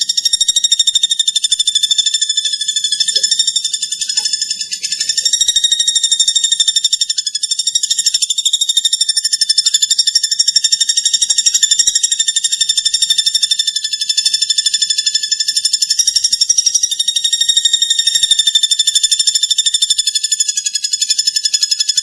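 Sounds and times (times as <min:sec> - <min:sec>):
bird singing rapid high trill: 0:00.0 - 0:22.0.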